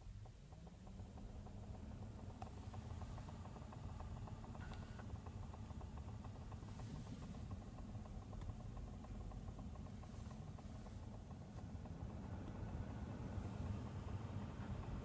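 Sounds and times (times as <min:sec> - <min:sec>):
blower fan humming: 0:01.1 - 0:15.0.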